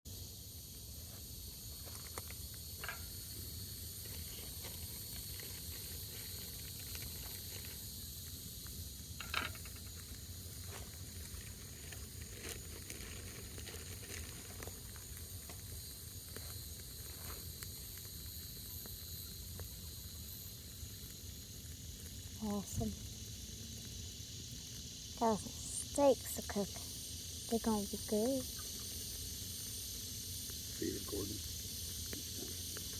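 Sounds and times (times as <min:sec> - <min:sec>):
campfire hissing: 0:00.1 - 0:32.9
fire crackling and popping: 0:00.4 - 0:32.9.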